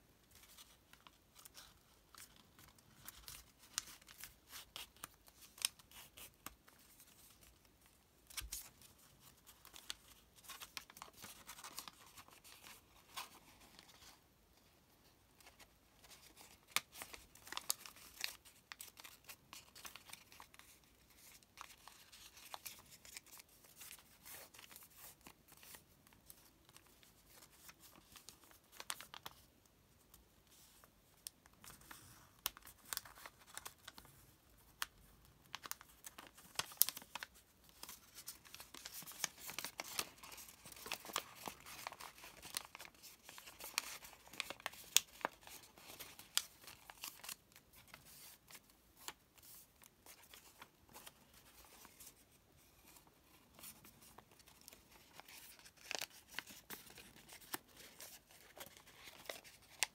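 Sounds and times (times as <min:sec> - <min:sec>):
paper crinkling and crackling: 0:00.2 - 0:14.2, 0:15.4 - 0:29.5, 0:30.1 - 0:59.9.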